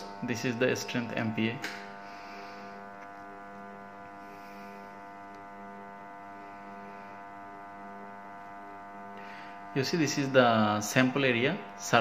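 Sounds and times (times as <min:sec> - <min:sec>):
testing machine humming: 0:00.0 - 0:12.0.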